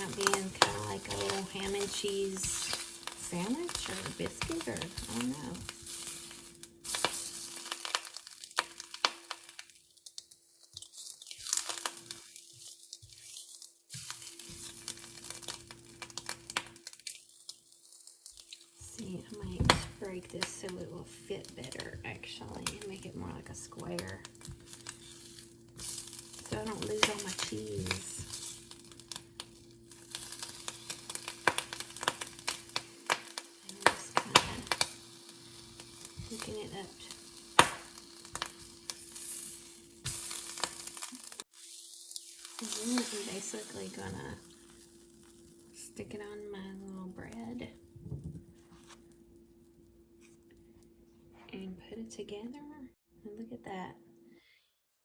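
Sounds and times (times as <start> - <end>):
food breaking and crackling: 0.0 - 20.8, 21.4 - 45.8
ham sizzling in a frying pan: 0.0 - 50.3.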